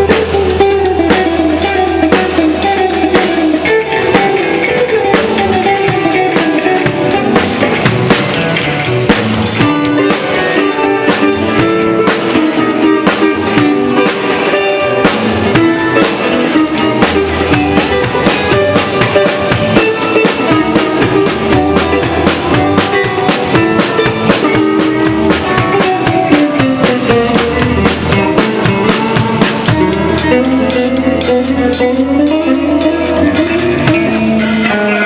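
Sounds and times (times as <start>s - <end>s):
band music: 0.0s - 35.0s
drums keeping steady beat: 0.0s - 35.0s.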